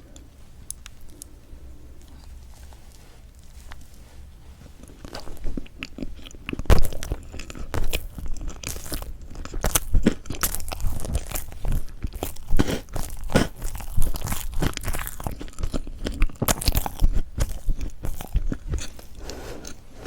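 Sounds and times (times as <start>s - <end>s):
person eating cake: 0.1s - 20.0s.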